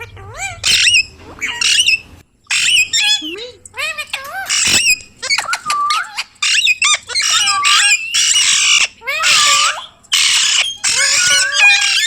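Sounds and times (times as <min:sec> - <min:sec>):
parrot screeching: 0:00.0 - 0:12.0
parrot whistled calls: 0:00.2 - 0:12.0.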